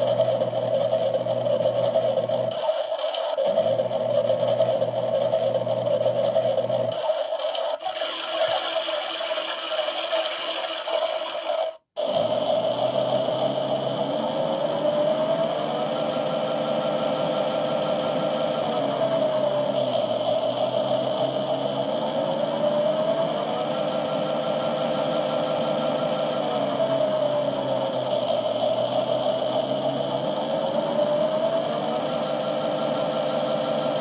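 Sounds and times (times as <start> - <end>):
washing machine motor whine: 0.0 - 34.0.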